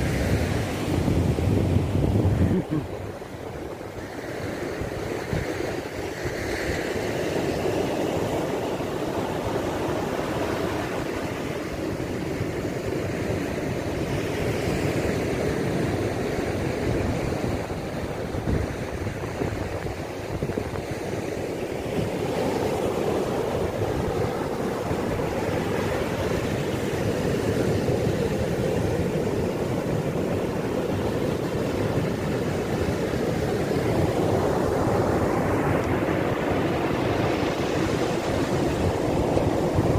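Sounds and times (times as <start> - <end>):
surf breaking on sandy beach: 0.0 - 39.9
wind buffeting microphone: 0.0 - 39.9.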